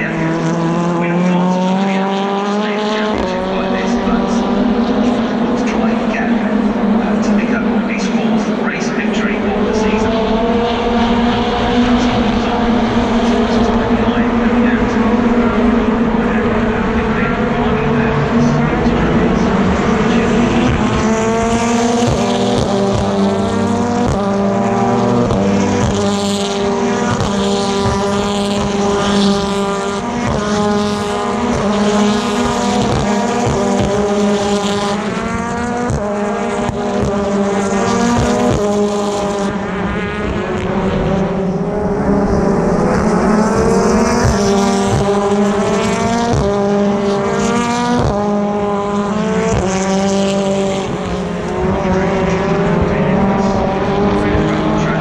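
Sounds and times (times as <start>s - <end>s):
racing car engines accelerating: 0.0s - 55.0s.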